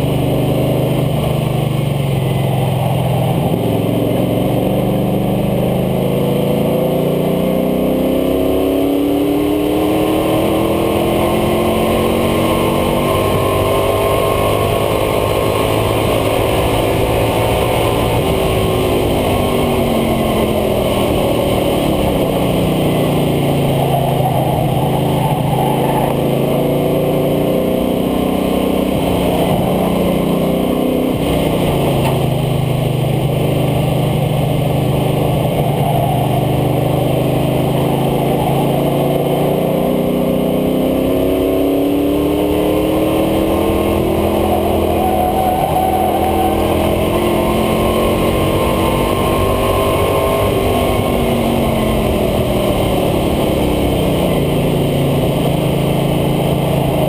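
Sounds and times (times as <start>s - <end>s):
truck engine: 0.0s - 57.0s.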